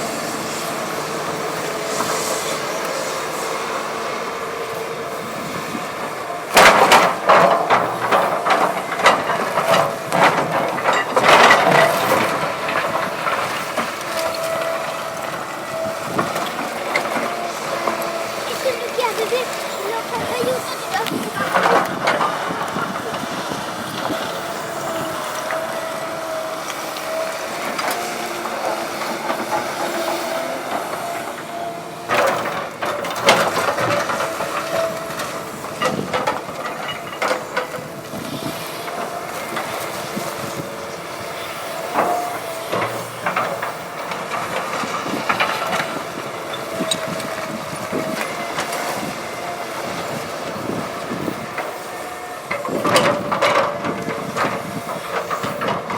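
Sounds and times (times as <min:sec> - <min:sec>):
excavator engine and hydraulics whine: 0:00.0 - 0:55.9
excavator clanks and knocks: 0:00.1 - 0:55.9.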